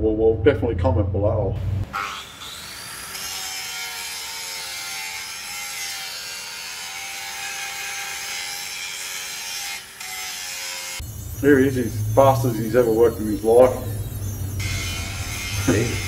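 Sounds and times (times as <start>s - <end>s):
angle grinder grinding steel: 1.8s - 16.0s.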